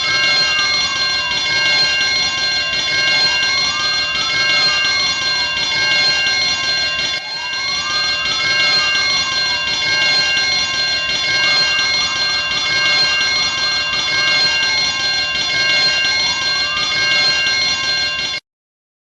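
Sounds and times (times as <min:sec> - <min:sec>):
fire alarm bell ringing: 0:00.0 - 0:18.4.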